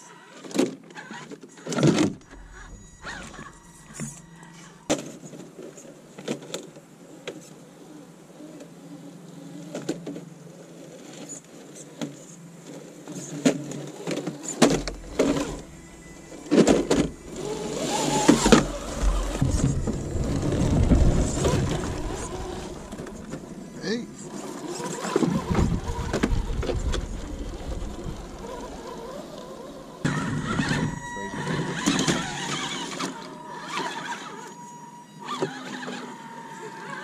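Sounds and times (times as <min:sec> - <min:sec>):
electric motor whining: 0:00.0 - 0:05.8, 0:10.5 - 0:37.0.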